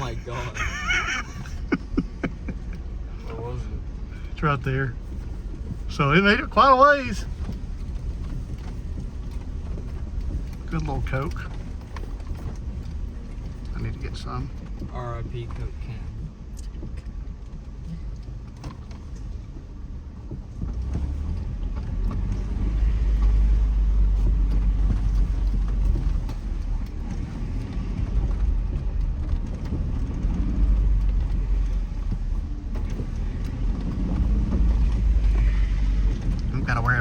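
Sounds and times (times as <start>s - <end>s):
vehicle cabin rumble: 0.0s - 37.0s
small knocks and rattles: 5.0s - 37.0s.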